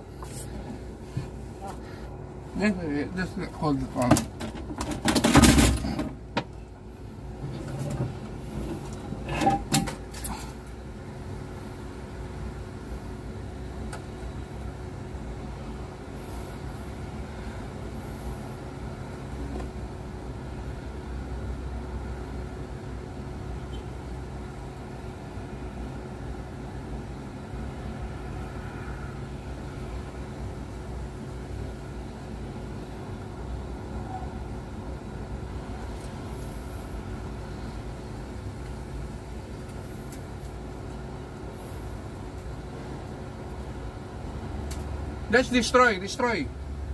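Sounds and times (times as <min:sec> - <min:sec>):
faint constant tone: 0:00.0 - 0:46.9
low mechanical hum: 0:00.0 - 0:46.9.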